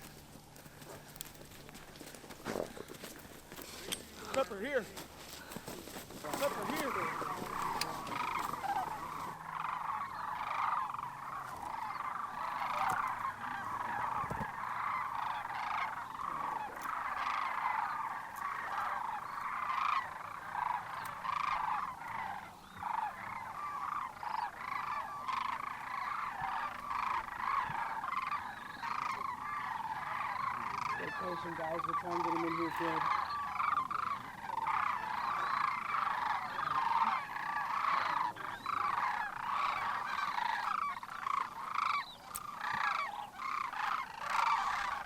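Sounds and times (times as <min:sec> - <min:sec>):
cranes croaking calls: 0:00.0 - 0:45.0.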